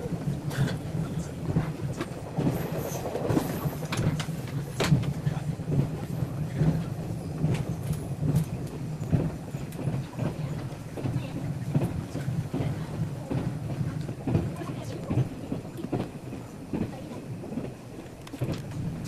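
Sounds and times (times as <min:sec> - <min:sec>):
train drone inside carriage: 0:00.0 - 0:19.0
wheels clicking over rail joints: 0:00.0 - 0:19.0.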